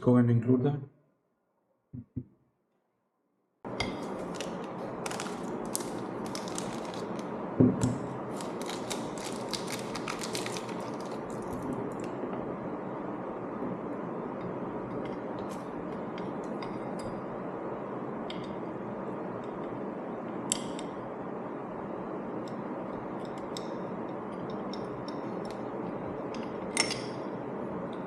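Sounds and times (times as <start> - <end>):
steady background hiss: 3.7 - 28.0.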